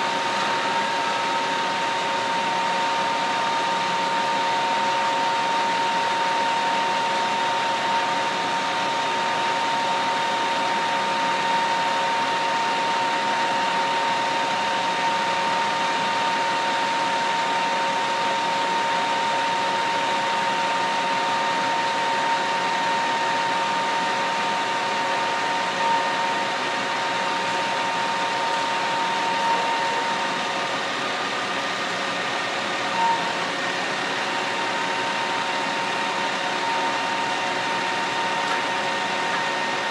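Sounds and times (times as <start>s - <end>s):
constant high whine: 0.0s - 39.9s
machinery drone: 0.0s - 39.9s.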